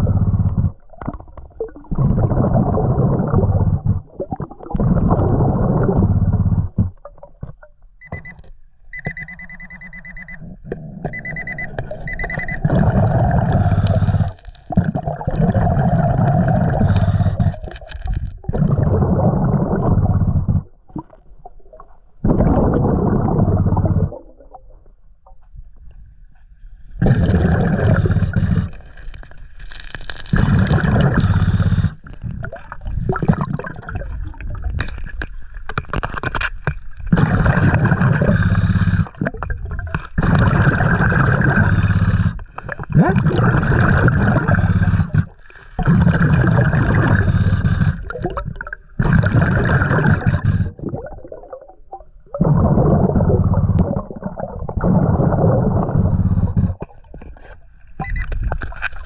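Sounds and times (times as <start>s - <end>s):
exhaled air bubbling underwater: 0.0s - 59.0s.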